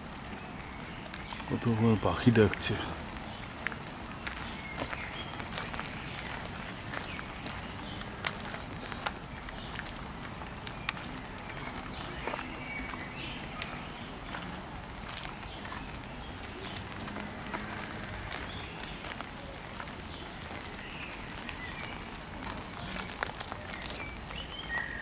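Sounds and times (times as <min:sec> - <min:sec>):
songbirds trilling: 0:00.1 - 0:25.0.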